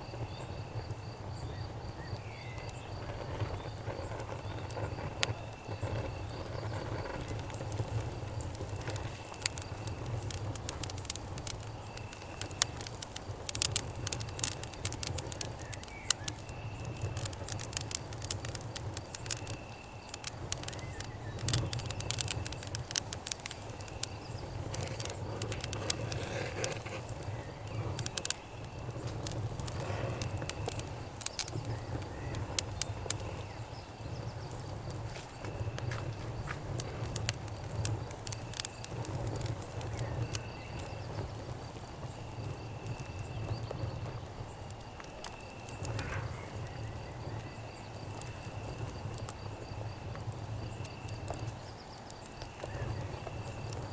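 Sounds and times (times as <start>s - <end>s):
campfire crackling and popping: 0.0s - 53.9s
cricket chirping: 0.0s - 53.9s
high insect drone: 0.0s - 53.9s.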